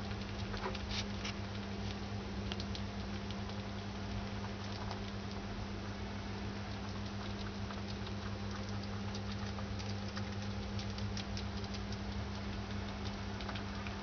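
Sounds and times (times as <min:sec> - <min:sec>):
mouse chewing: 0:00.0 - 0:14.0
steady low hum: 0:00.0 - 0:14.0.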